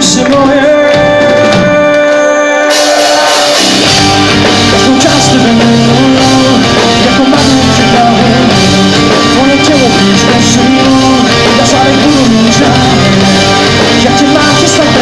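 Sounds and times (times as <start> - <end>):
electric guitars: 0.0 - 15.0
bass line: 2.6 - 15.0
drums with cymbals: 2.7 - 15.0.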